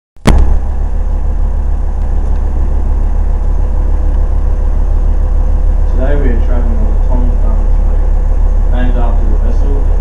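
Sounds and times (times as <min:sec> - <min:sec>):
boat engine rumbling: 0:00.3 - 0:10.0.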